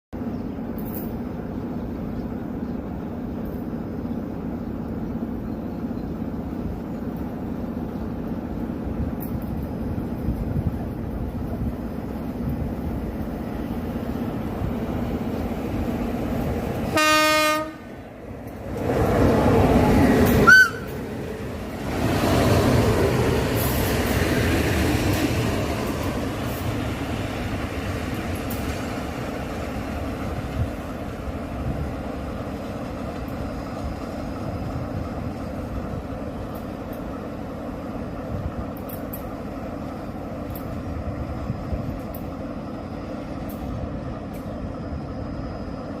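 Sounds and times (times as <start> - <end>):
train rumbling along track: 0.2 - 46.0.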